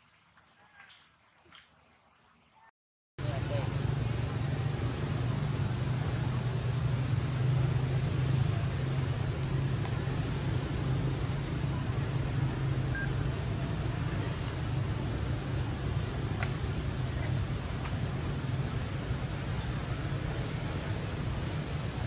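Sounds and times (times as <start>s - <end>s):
low rumble and hiss: 3.2s - 22.0s.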